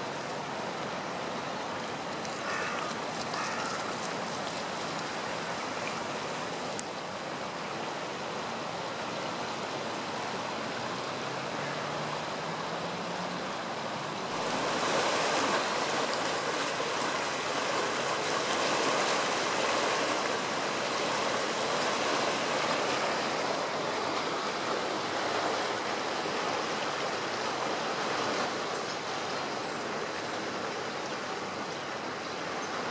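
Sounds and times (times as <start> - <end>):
river rushing: 0.0 - 32.9.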